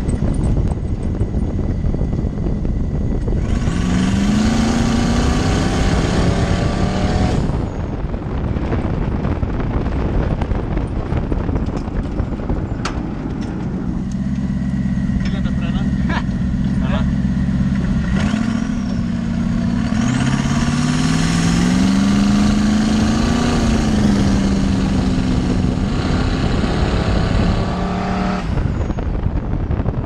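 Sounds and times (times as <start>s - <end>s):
road and wind noise: 0.0s - 30.0s
engine revving: 1.2s - 29.2s.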